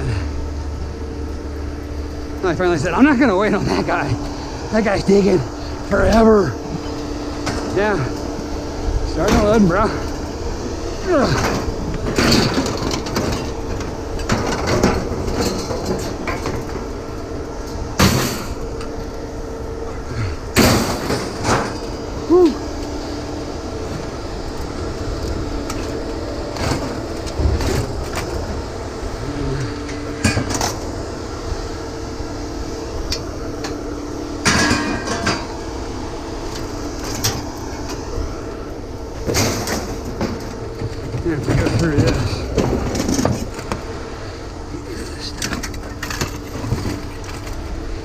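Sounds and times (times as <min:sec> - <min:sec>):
engine hum: 0:00.0 - 0:48.0.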